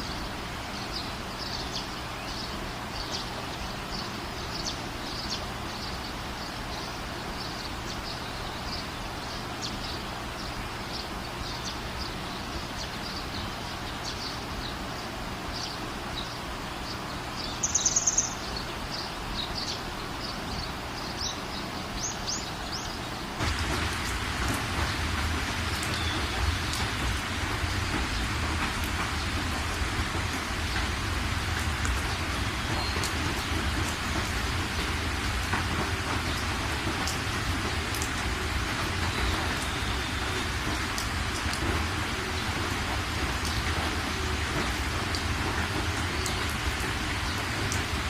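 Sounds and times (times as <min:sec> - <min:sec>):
rain: 0:00.0 - 0:48.0.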